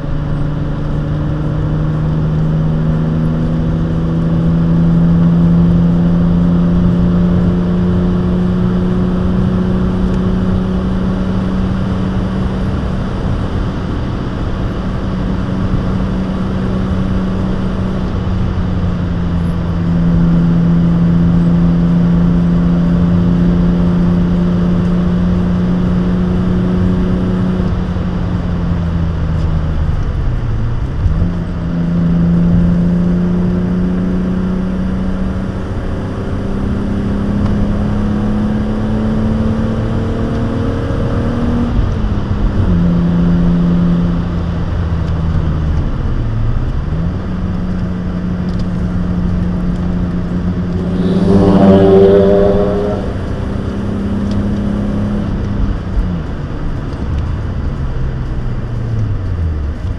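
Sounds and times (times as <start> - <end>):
car engine at high revs: 0.0 - 59.9
road and wind noise: 0.0 - 59.9.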